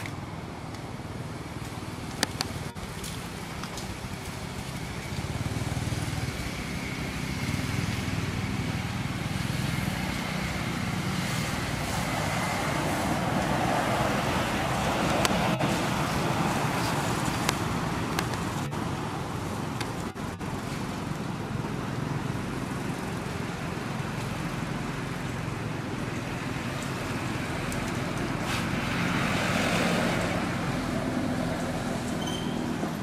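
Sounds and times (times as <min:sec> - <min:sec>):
road traffic noise: 0:00.0 - 0:33.0
vehicle passing: 0:01.8 - 0:33.0.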